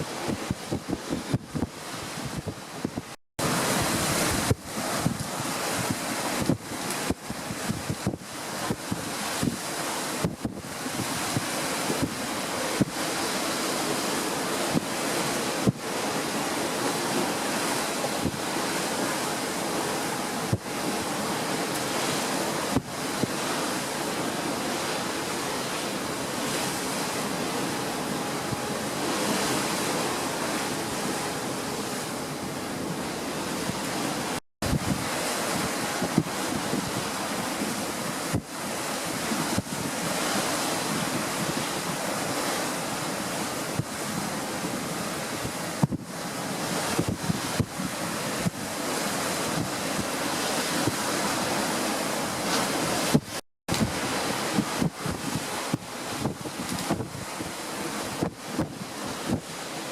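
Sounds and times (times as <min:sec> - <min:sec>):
sea: 0:00.0 - 0:59.9
wind buffeting microphone: 0:00.0 - 0:59.9.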